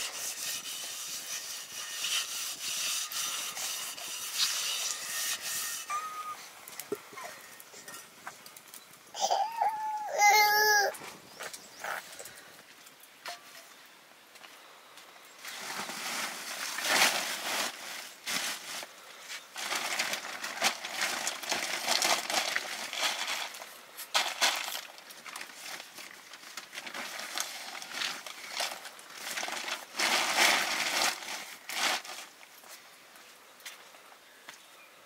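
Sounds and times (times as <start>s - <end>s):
rustling and crinkling: 0.0s - 34.2s.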